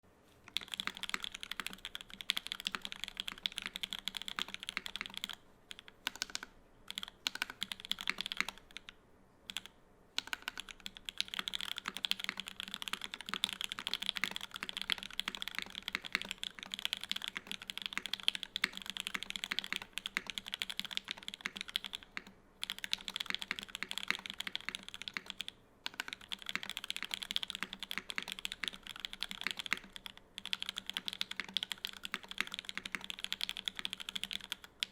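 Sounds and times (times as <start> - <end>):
fast mechanical keyboard typing: 0.5 - 8.9, 9.5 - 34.9.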